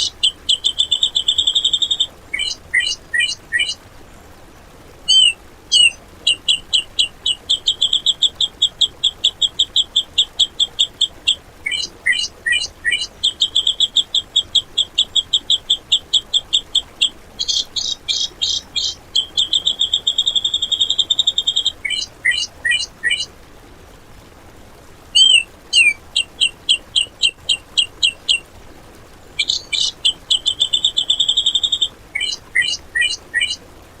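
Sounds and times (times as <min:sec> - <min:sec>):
bird singing harsh rapid notes: 0:00.0 - 0:03.8, 0:05.1 - 0:23.3, 0:25.2 - 0:28.4, 0:29.4 - 0:33.6.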